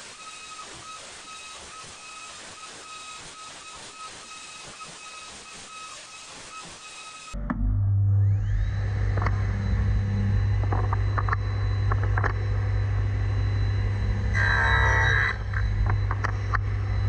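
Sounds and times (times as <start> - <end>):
table saw motor whine and hum: 0.0 - 17.0.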